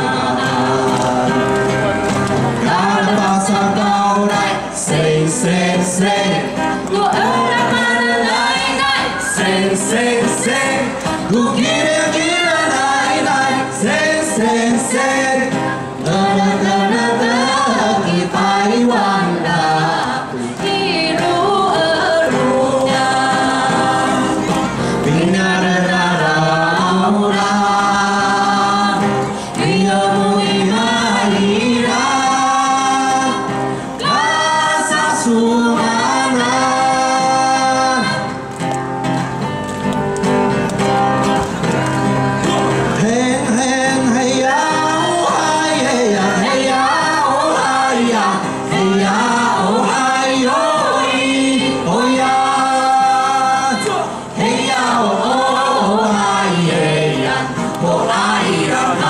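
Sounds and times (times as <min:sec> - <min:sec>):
group singing in harmony: 0:00.0 - 0:38.5, 0:42.6 - 0:59.0
acoustic guitar: 0:00.0 - 0:59.0.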